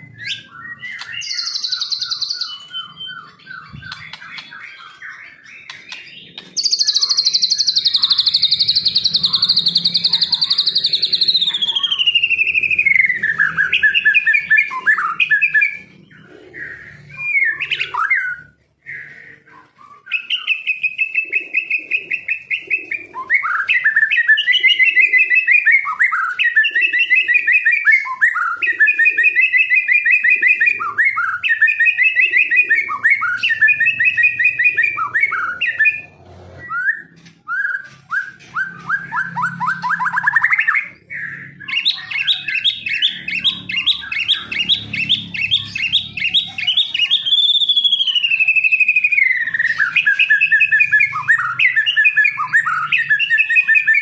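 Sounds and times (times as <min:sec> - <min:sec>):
songbird whistling phrases: 0:00.0 - 0:54.0.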